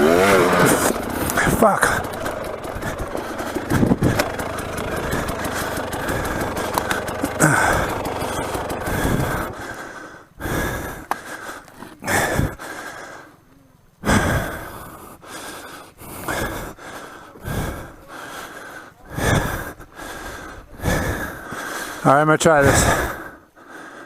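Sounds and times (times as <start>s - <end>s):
person breathing hard: 0.6s - 13.4s, 14.0s - 24.0s.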